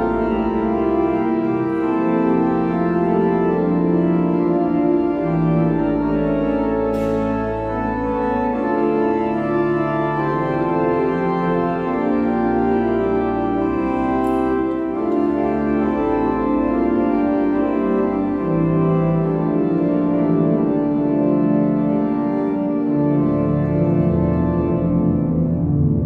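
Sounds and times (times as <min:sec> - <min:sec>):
church organ chords: 0:00.0 - 0:26.0.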